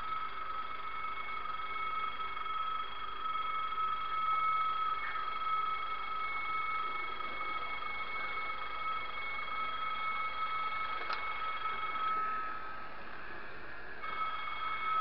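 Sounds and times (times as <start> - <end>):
model train motor whine: 0.0 - 15.0.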